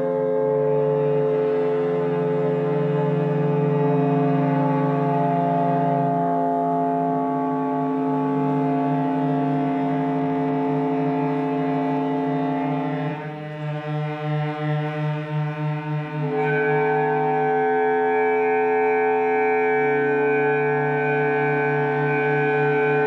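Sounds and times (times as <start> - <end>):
ensemble droning chord: 0.0 - 23.0.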